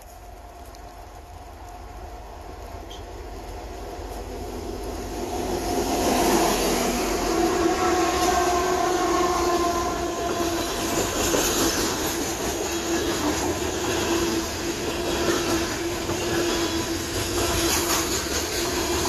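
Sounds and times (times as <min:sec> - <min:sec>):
train humming: 0:00.0 - 0:19.0.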